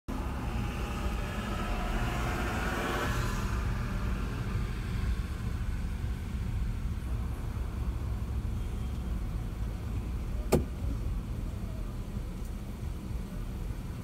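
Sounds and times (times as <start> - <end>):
car interior rumble: 0.1 - 14.0.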